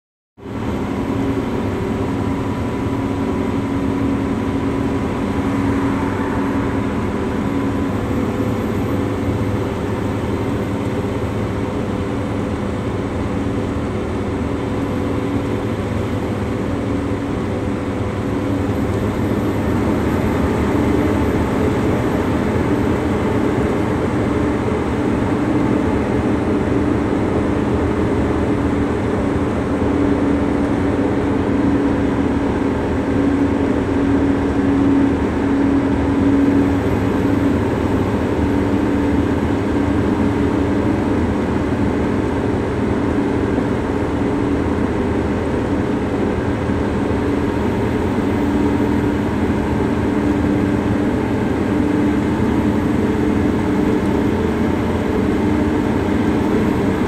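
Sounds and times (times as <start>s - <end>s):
low engine hum: 0.4s - 57.0s
road rush inside vehicle: 0.4s - 57.0s.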